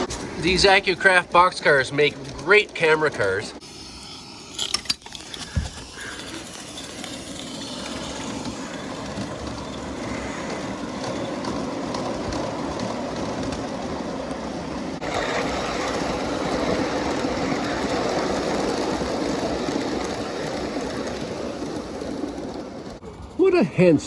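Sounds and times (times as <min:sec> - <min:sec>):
model train wheels clickety-clack: 0:00.0 - 0:24.0.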